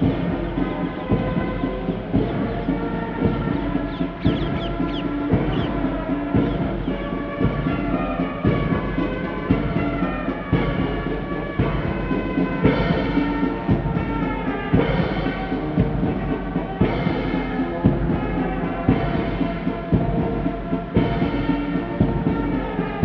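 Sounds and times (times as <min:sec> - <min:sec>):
drum beats: 0:00.0 - 0:23.0
military band playing ceremonial music: 0:00.0 - 0:23.0.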